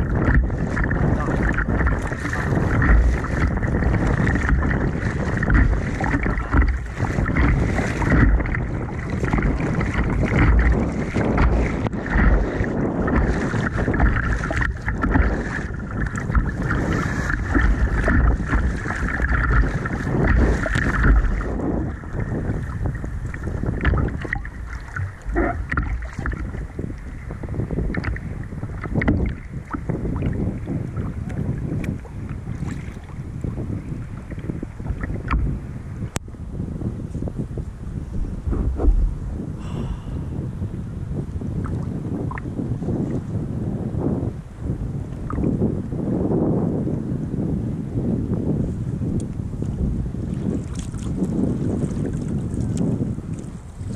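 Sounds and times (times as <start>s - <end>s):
water splashing against kayak: 0.0s - 46.8s, 47.5s - 53.9s
wind rumbling on microphone: 0.0s - 53.9s.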